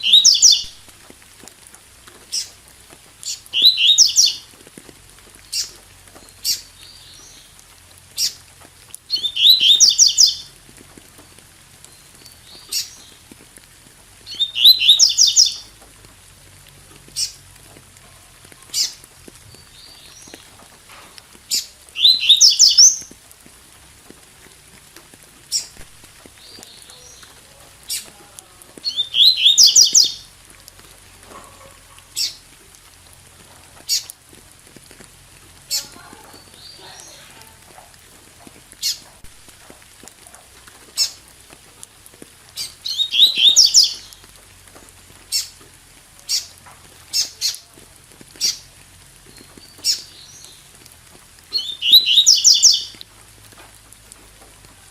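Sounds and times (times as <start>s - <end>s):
faint rain: 0.0s - 54.9s.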